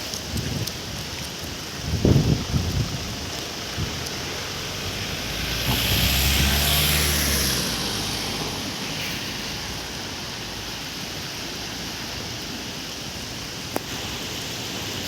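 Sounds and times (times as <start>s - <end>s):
steady rain hissing: 0.0s - 15.0s.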